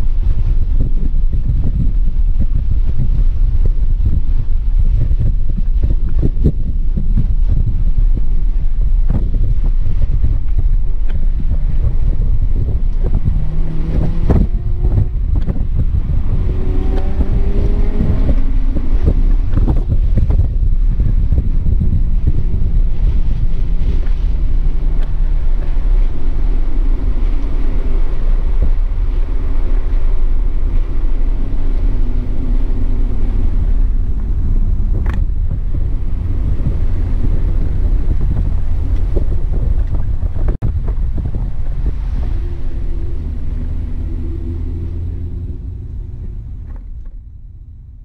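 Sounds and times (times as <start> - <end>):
car engine at light throttle: 0.0 - 48.0
road and wind noise: 0.0 - 48.0.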